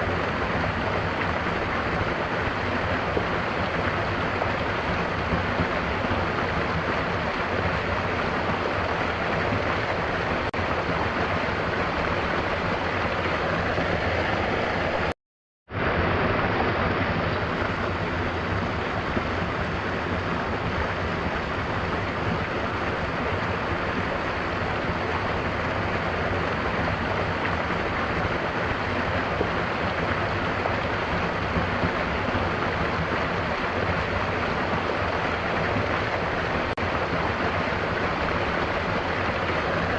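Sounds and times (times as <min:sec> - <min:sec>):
waterfall pouring: 0:00.0 - 0:15.2, 0:15.8 - 0:39.9.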